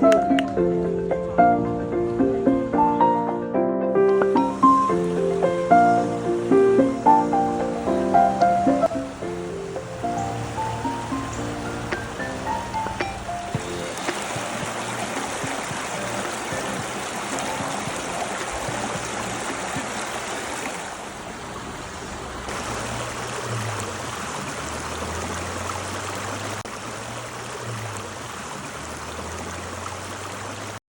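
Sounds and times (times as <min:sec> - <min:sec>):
running water rushing: 0:00.0 - 0:03.4, 0:04.0 - 0:30.8.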